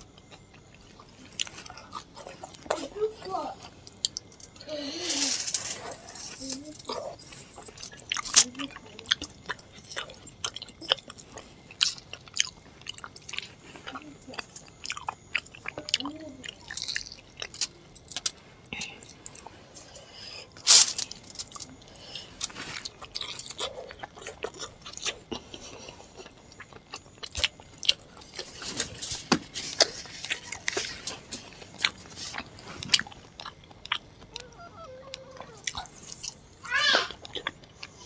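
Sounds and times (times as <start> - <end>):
chewing and wet mouth clicks: 0.0 - 2.8, 3.8 - 4.6, 6.8 - 19.5, 21.5 - 34.5, 35.1 - 36.5, 37.1 - 38.0.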